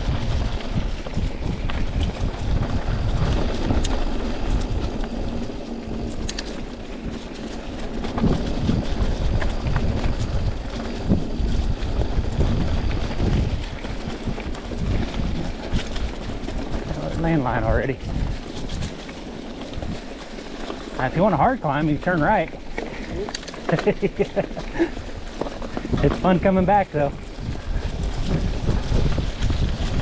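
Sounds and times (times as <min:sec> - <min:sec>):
wind on microphone: 0:00.0 - 0:20.2, 0:22.6 - 0:30.0
bike clicks and rattles: 0:00.0 - 0:30.0
bike rolling on dirt trail: 0:00.0 - 0:30.0.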